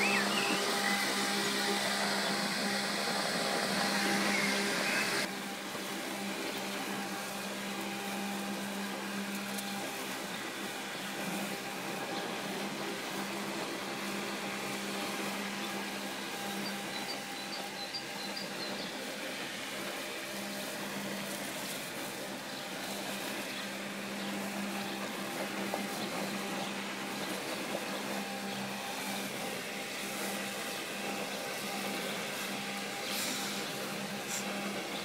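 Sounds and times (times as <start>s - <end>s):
robotic lawn mower whirring: 0.0s - 35.0s.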